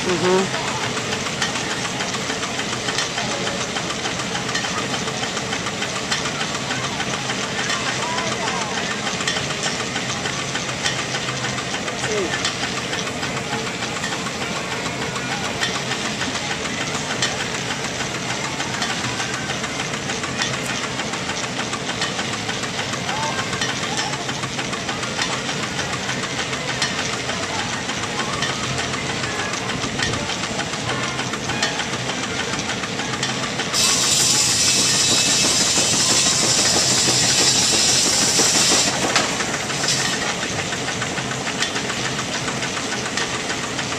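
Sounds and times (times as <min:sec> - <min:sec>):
steam engine clattering: 0:00.0 - 0:43.9
steam hissing: 0:00.0 - 0:43.9.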